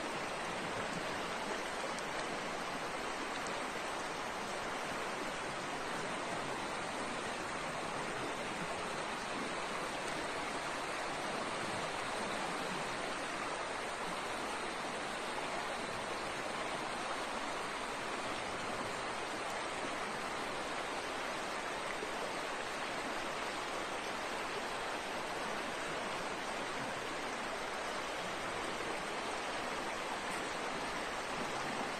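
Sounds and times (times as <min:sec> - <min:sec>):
water rushing over rocks: 0:00.0 - 0:31.9.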